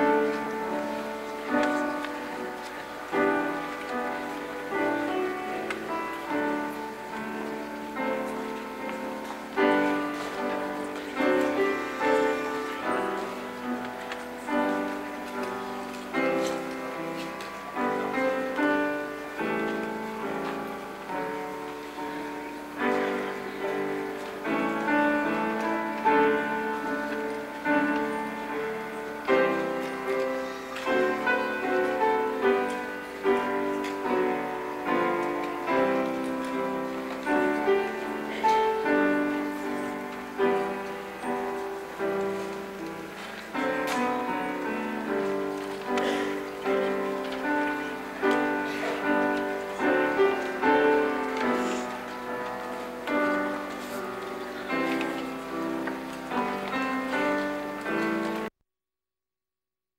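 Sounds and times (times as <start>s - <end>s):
slow piano piece: 0.0s - 58.5s.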